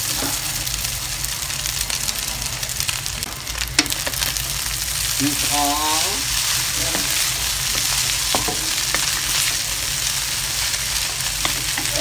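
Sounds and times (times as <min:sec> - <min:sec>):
noodles sizzling in hot oil: 0:00.0 - 0:12.0.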